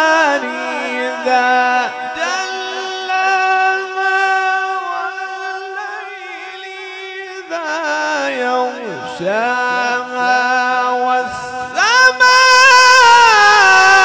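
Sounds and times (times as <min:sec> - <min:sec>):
man reciting melodically with echo: 0:00.0 - 0:14.0.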